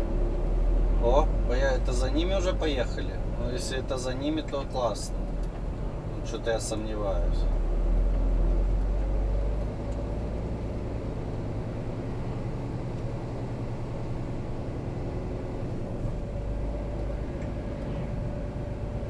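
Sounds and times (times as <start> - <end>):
truck diesel engine drone: 0.0 - 19.0.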